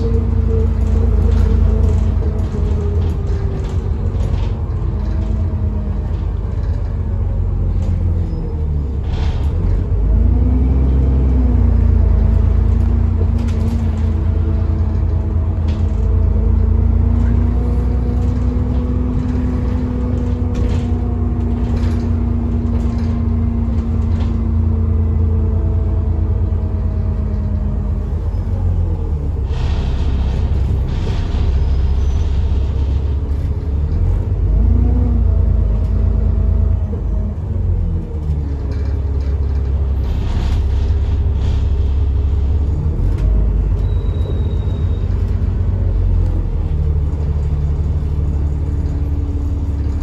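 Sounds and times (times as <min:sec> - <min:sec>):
bus engine rumble: 0:00.0 - 0:50.0
rattles inside bus: 0:00.0 - 0:50.0.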